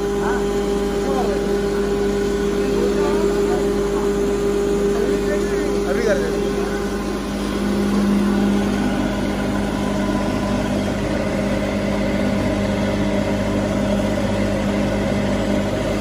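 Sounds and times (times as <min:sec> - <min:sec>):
wood grinding machine droning: 0:00.0 - 0:16.0.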